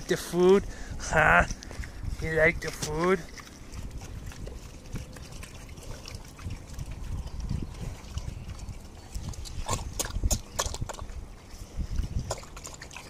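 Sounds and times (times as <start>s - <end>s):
pig slurping mash: 0.0s - 13.0s.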